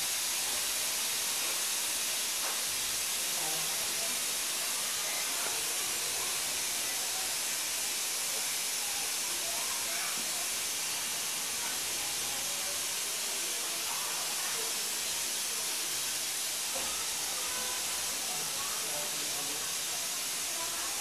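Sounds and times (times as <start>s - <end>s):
steady hiss: 0.0s - 21.0s
faint voices: 3.1s - 21.0s.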